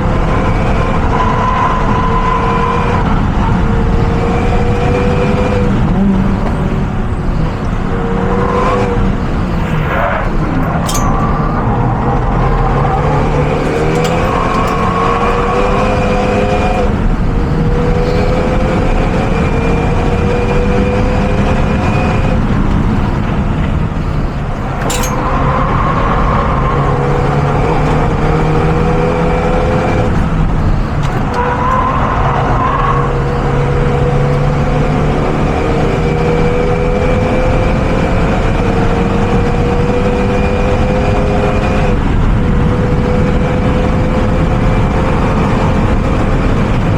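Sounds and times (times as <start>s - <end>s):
car engine revving under load: 0.0s - 46.9s.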